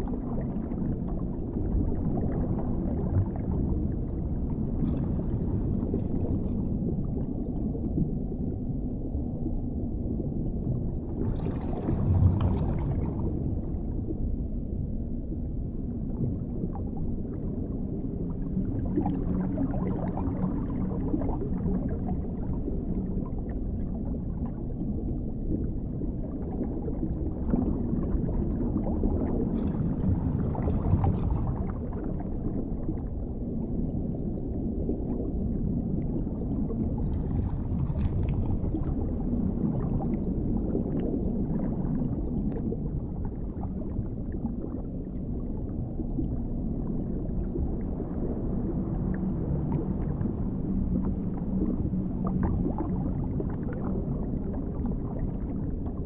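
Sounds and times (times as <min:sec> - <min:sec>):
muffled underwater rumble: 0:00.0 - 0:56.0.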